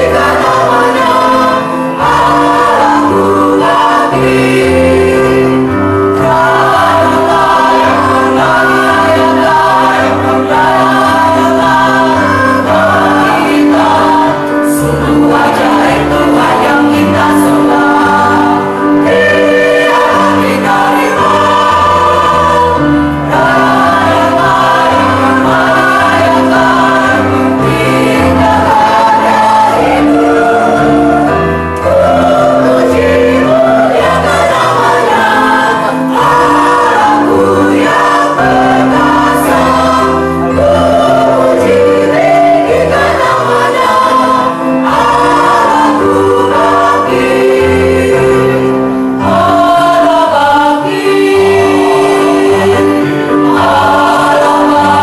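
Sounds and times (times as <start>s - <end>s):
church choir singing: 0.0s - 55.0s.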